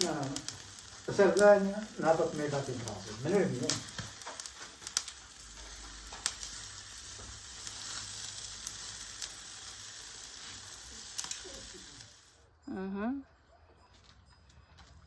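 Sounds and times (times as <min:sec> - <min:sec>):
embers crackling and popping: 0:00.0 - 0:12.4
fish sizzling on a grill: 0:00.0 - 0:12.4.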